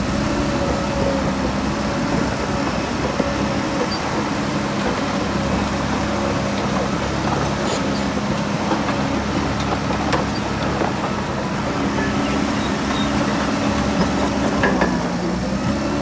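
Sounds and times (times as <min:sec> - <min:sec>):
diesel earthmover engine running: 0:00.0 - 0:16.0.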